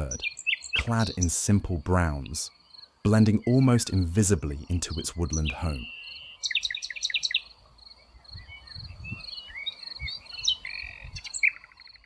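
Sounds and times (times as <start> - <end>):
nightingale singing: 0.0 - 12.0.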